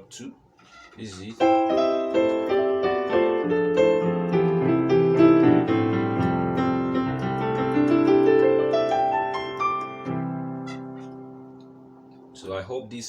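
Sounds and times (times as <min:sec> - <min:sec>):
keyboard piano chords: 0:01.2 - 0:12.9
rising run of piano notes: 0:01.4 - 0:12.4.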